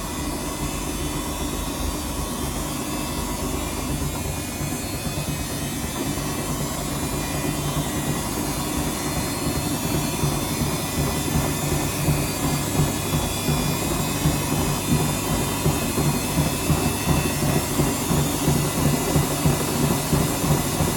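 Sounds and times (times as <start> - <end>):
washing machine spinning: 0.0 - 20.9.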